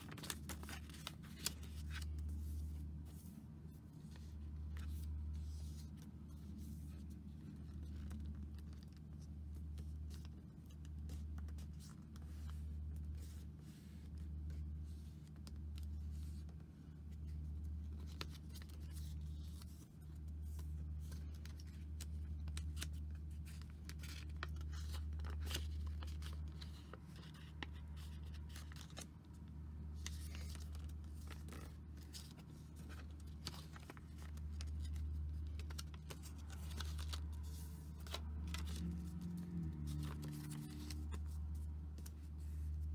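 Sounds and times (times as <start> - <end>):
paper crinkling and creasing: 0.0 - 42.9.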